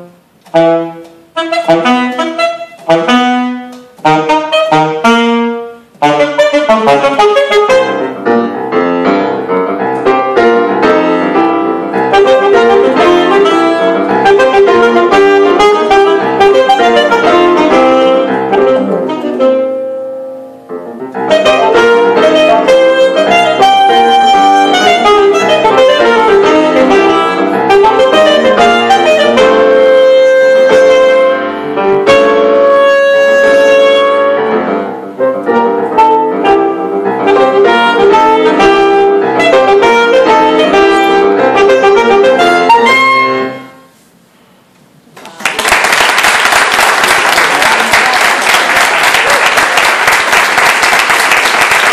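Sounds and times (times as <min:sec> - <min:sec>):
alto saxophone: 0:00.0 - 0:44.0
grand piano: 0:00.0 - 0:51.9.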